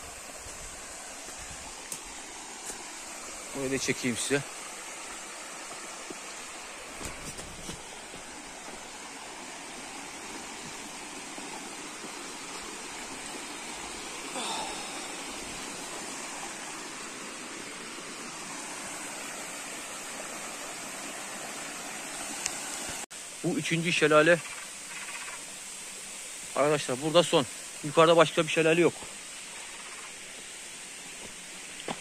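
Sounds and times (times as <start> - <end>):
stream rushing over rocks: 0.0 - 32.0.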